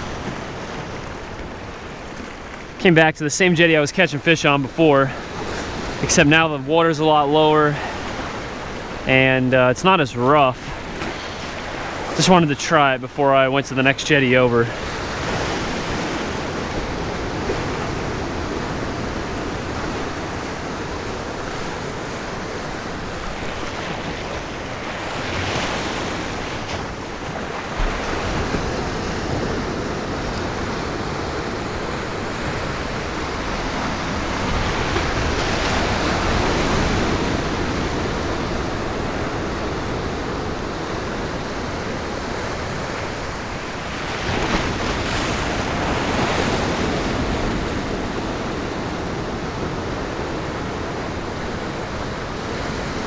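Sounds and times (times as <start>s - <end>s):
ocean surf over rocks: 0.0s - 53.0s.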